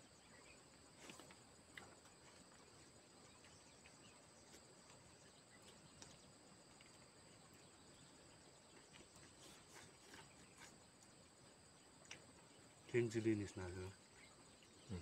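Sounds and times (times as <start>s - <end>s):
faint insect drone: 0.0s - 15.0s.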